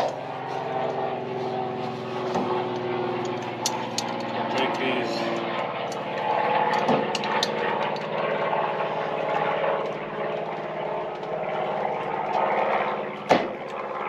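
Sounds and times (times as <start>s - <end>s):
motor drone: 0.0s - 14.0s.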